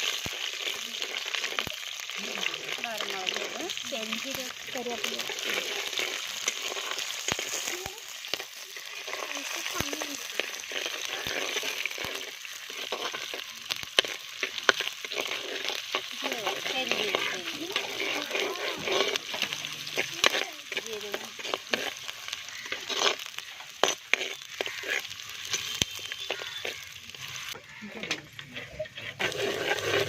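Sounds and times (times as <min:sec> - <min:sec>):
spices frying and crackling: 0:00.0 - 0:30.0.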